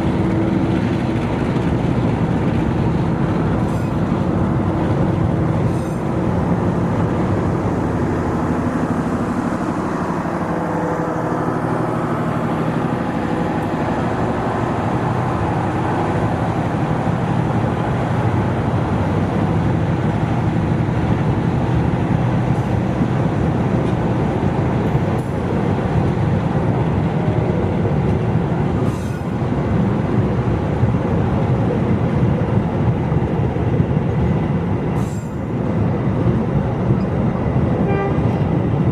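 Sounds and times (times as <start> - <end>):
diesel locomotive engine drone: 0.0 - 38.9
train rumbling on rails: 0.0 - 38.9.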